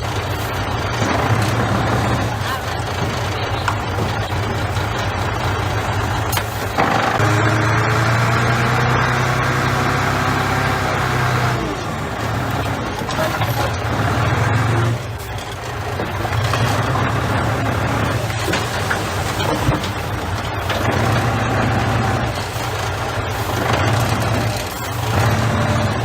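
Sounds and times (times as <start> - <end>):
bulldozer diesel engine under load: 0.0 - 26.0.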